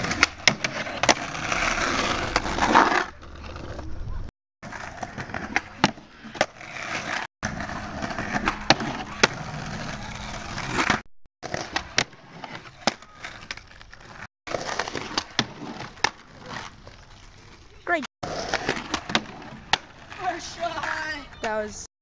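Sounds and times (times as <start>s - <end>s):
skateboard wheels rolling on asphalt: 0.0s - 21.8s.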